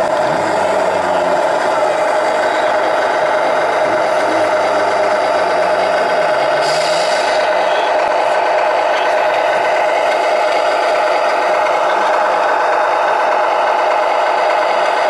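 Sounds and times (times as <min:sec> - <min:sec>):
model tractor mechanical hum: 0:00.0 - 0:15.0
trailer rattling: 0:00.0 - 0:15.0.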